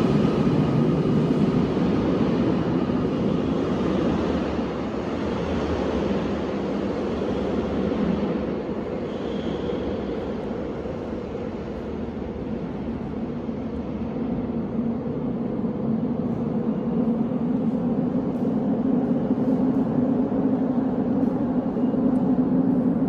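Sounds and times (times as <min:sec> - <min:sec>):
subway train rumbling: 0:00.0 - 0:23.0.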